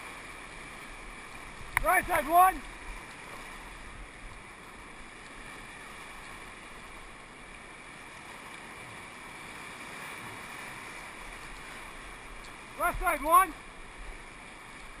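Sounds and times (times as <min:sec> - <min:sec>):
whitewater rapids rushing: 0:00.0 - 0:08.5, 0:09.4 - 0:15.0.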